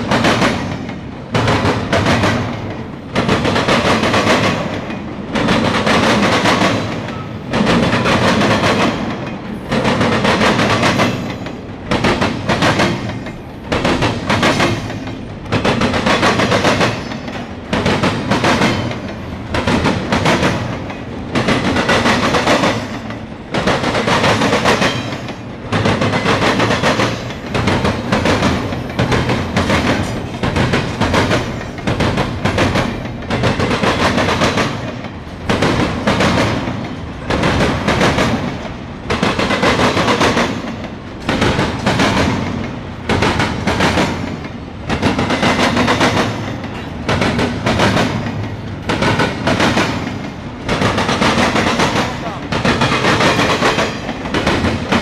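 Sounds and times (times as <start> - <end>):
freight train wheels clattering: 0.0 - 55.0
train rolling rumble: 0.0 - 55.0.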